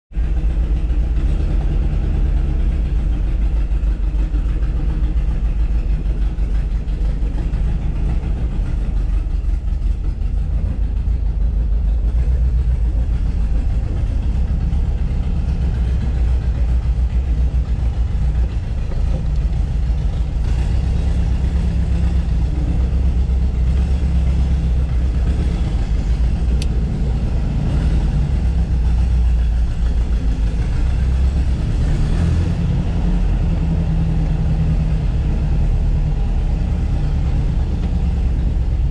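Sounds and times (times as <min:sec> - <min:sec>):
car engine droning while driving: 0:00.1 - 0:38.9.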